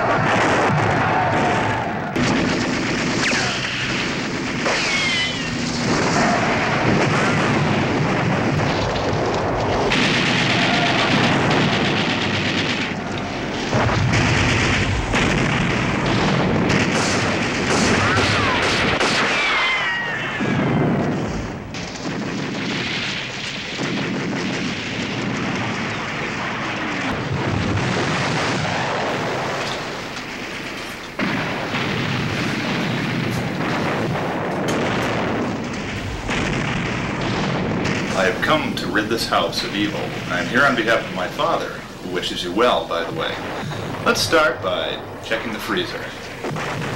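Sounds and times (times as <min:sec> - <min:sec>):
explosions: 0:00.0 - 0:46.9
gunfire: 0:00.0 - 0:46.9.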